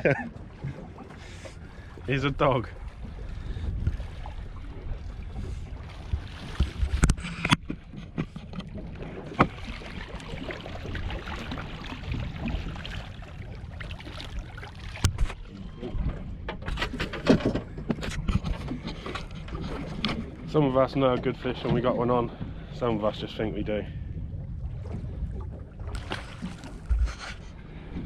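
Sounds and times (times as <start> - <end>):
water against boat hull: 0.0 - 28.0
wind rumbling on microphone: 0.0 - 28.0.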